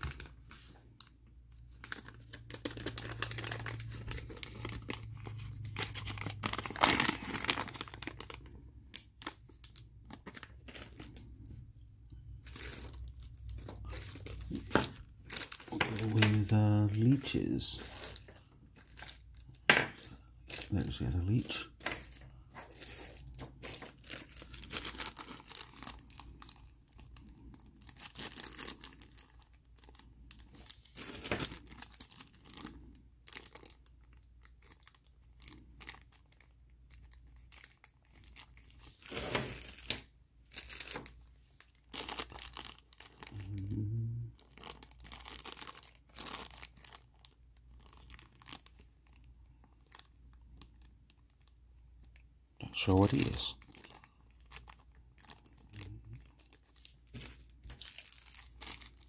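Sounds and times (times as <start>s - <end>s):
plastic bags crinkling: 0.0s - 43.6s, 44.4s - 59.0s.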